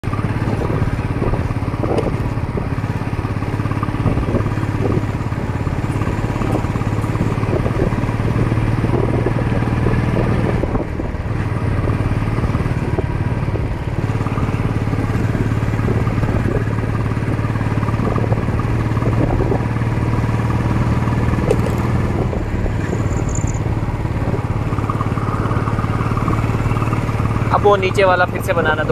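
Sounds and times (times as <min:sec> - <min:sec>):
single-cylinder motorcycle engine running: 0:00.0 - 0:28.9.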